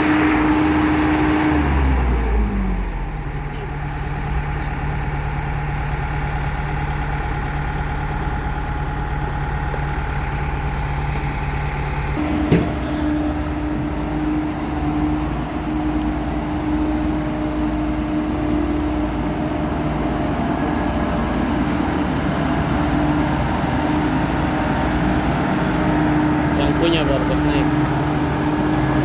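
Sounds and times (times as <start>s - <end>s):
heavy diesel engine humming: 0.0s - 29.0s.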